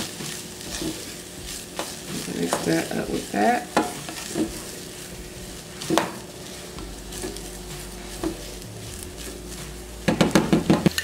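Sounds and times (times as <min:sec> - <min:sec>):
food sizzling in a saucepan: 0:00.0 - 0:11.0
spatula knocking on pan: 0:00.7 - 0:08.5, 0:09.2 - 0:11.0.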